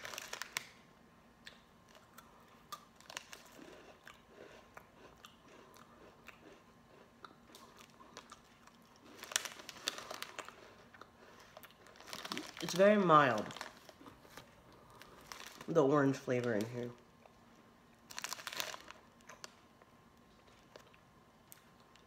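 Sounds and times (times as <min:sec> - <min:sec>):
person chewing crunchy cookie: 0:01.4 - 0:15.7, 0:17.1 - 0:22.0.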